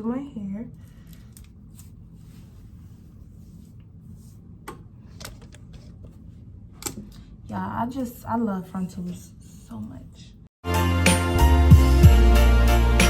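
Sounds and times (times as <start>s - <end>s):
low room hum: 0.0s - 10.5s.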